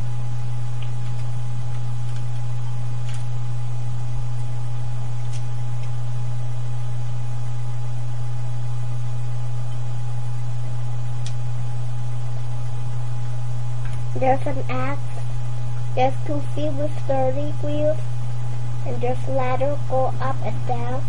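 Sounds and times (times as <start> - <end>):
faint high whine: 0.0 - 21.0
loud low electrical hum: 0.0 - 21.0.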